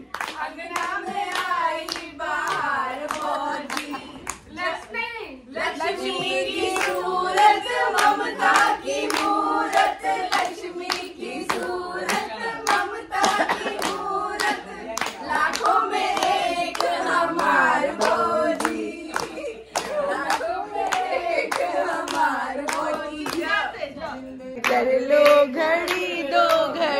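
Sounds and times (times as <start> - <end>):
hands clapping a beat: 0.0 - 4.9, 5.9 - 26.9
voices singing together: 0.0 - 26.9.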